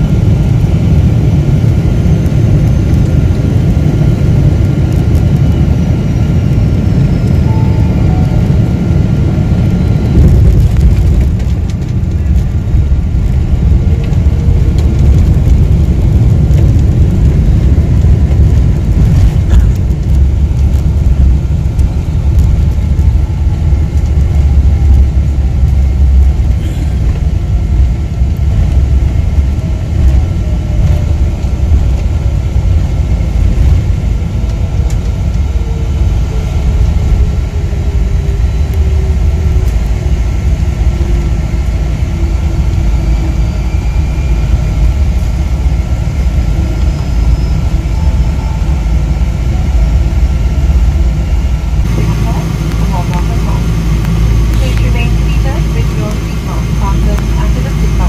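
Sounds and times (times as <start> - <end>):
airplane engines and wheels rumbling: 0.0 - 58.0
falling whine: 0.0 - 58.0
steady engine tone: 0.0 - 58.0.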